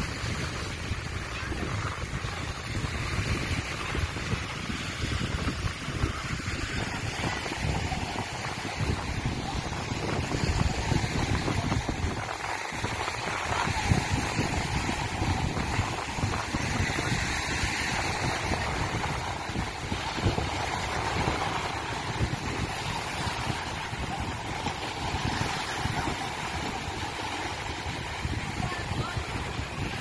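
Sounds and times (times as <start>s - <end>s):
dense rumble: 0.0s - 30.0s
wind buffeting microphone: 0.0s - 30.0s.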